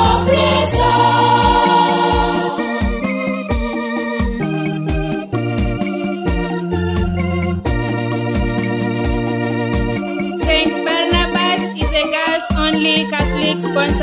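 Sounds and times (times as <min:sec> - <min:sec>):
electronic keyboard music with beat: 0:00.0 - 0:14.0.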